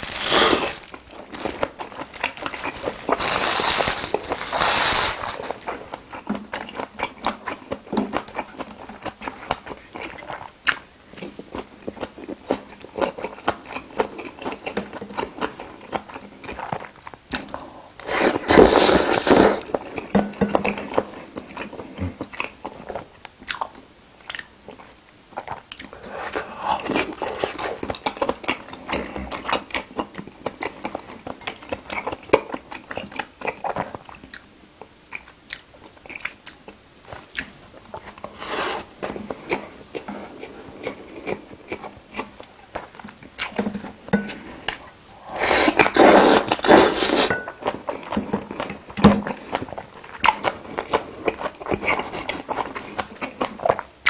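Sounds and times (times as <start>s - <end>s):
chewing and biting food: 0.0s - 34.5s, 35.1s - 53.9s.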